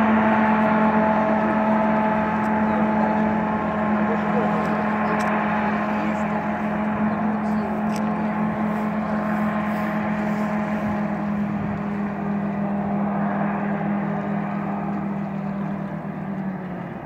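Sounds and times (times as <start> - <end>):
hovercraft engine droning: 0.0 - 17.0.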